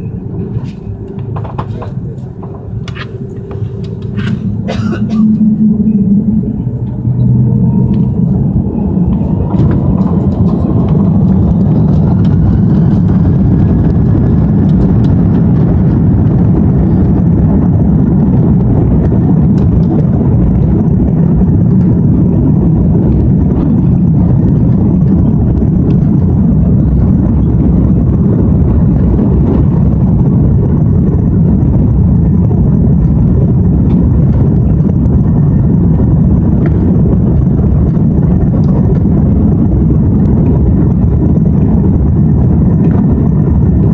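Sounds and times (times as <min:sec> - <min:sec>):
jet engines spooling up whine: 0:00.0 - 0:43.9
takeoff roll rumble: 0:00.0 - 0:43.9.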